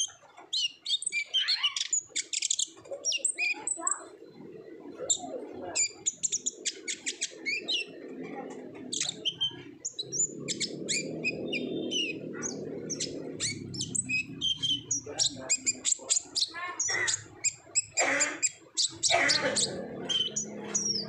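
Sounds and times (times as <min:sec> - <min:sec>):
low background noise: 0:00.0 - 0:21.0
sunbird chirping: 0:00.0 - 0:21.0.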